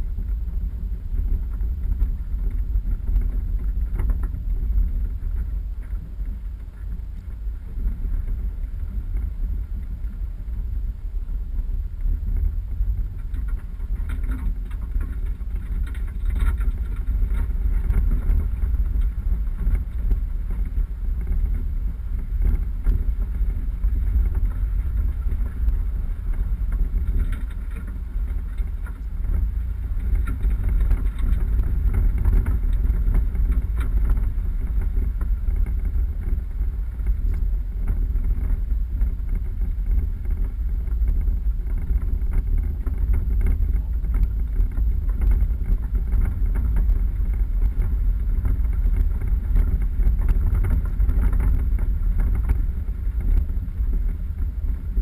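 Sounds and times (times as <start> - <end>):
off-road vehicle engine rumble: 0.0 - 55.0.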